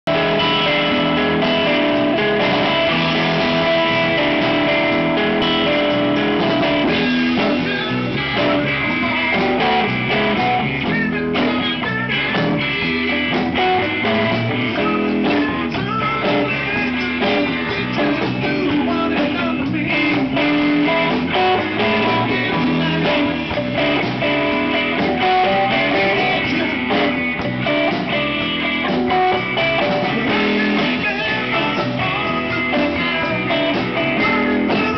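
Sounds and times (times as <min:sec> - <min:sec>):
bass guitar: 0:00.0 - 0:34.9
drum kit: 0:00.0 - 0:34.9
electric guitar: 0:00.0 - 0:34.9.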